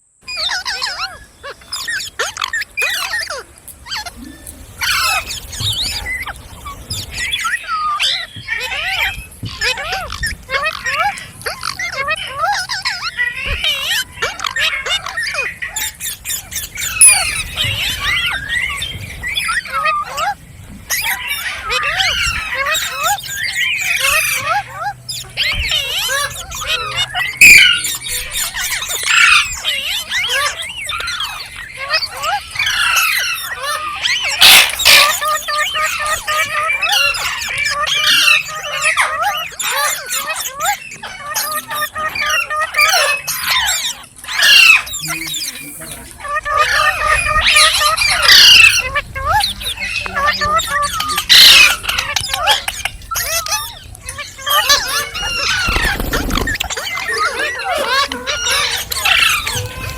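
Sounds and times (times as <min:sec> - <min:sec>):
parakeet screeching: 0:00.3 - 0:04.2, 0:04.8 - 0:59.9
parakeet chirping: 0:00.3 - 0:59.9
parrot chattering and squawking: 0:00.3 - 0:59.9.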